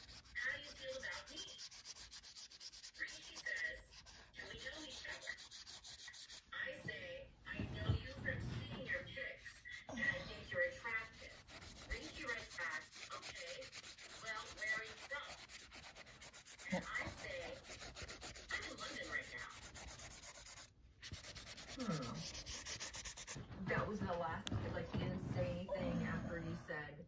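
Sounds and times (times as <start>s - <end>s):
brush scrubbing on paper: 0.0s - 6.6s, 8.8s - 24.0s.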